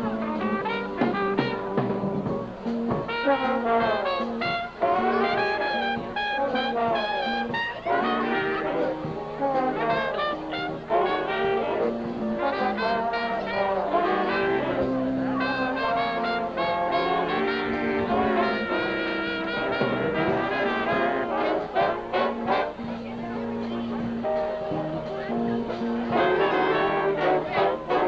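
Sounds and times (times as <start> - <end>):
brass instruments: 0.0 - 28.0
school band playing: 0.0 - 28.0.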